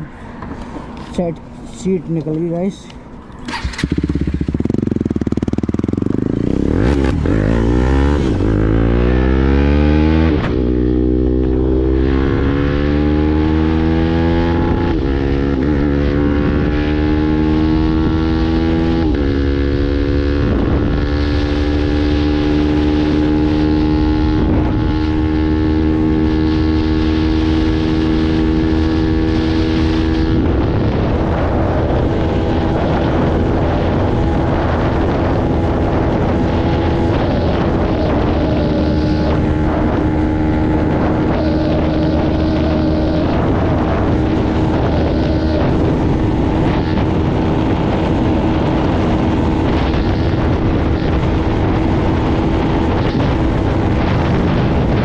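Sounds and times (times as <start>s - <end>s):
motorcycle engine accelerating: 3.3s - 55.0s.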